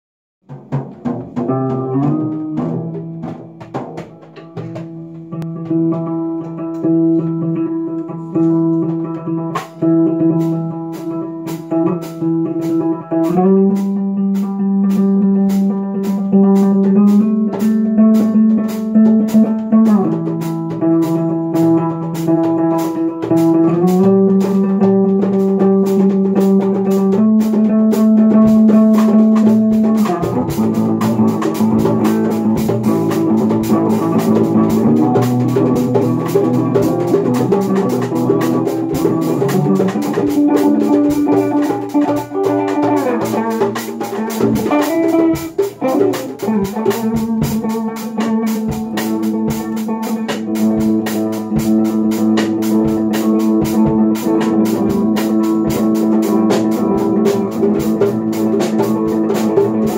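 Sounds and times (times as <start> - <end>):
drum and cymbal beat: 0.4 - 5.8, 9.4 - 59.9
electric guitar held notes: 0.4 - 59.9.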